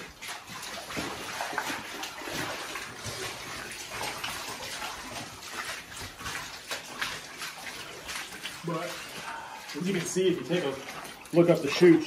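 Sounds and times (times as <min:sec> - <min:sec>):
boots wading through water: 0:00.0 - 0:12.0.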